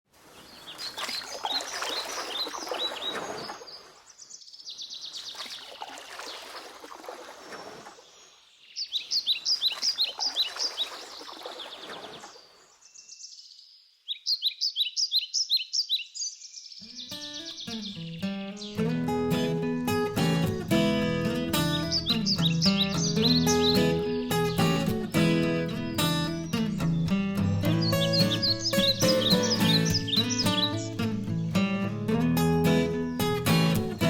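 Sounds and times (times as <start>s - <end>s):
birds chirping: 0.2s - 6.6s, 7.4s - 34.0s.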